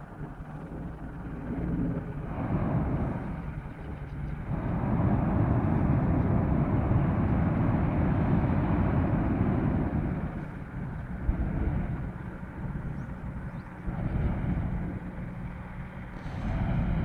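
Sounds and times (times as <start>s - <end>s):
steady rushing sound: 1.0s - 17.0s.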